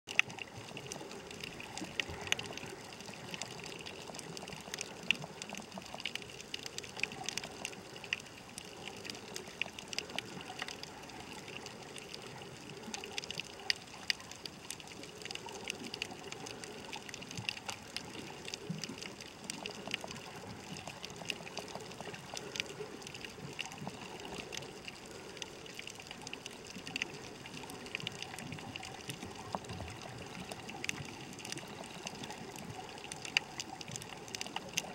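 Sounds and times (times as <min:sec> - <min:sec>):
sharp crackling clicks: 0:00.1 - 0:34.9
water noise: 0:00.1 - 0:34.9.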